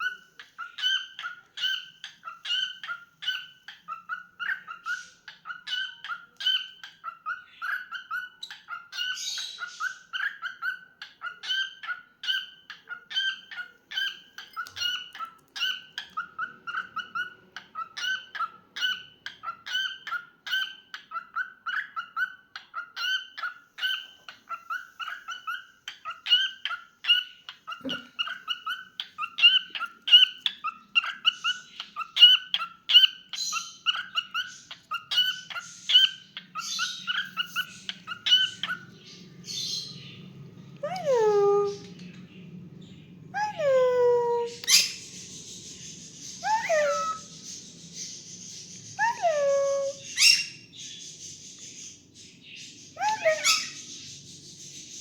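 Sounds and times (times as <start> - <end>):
cockatiel chirping: 0.0 - 40.2, 44.6 - 45.4, 46.2 - 51.8, 53.0 - 53.9.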